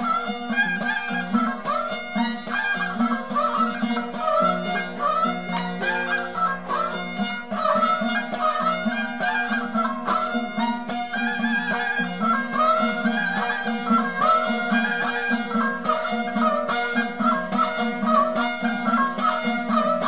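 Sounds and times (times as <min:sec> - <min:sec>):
bowed fiddle melody: 0:00.0 - 0:20.0.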